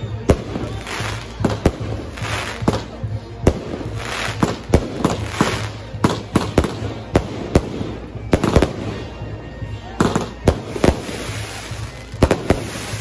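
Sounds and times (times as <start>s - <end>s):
fireworks bangs: 0.1s - 9.1s, 10.0s - 13.0s
fireworks hissing: 0.4s - 9.0s, 10.0s - 13.0s.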